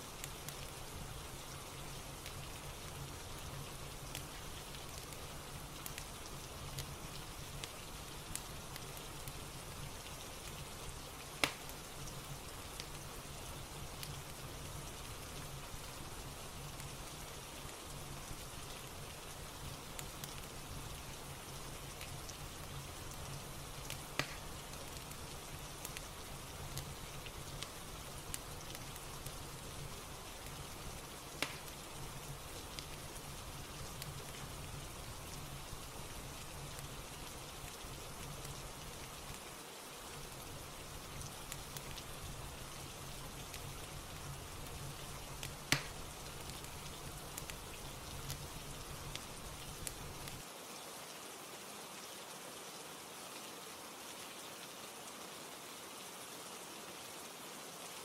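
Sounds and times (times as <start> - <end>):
fire crackling and popping: 0.0 - 39.5, 40.1 - 50.5
steady rain patter: 0.0 - 58.0.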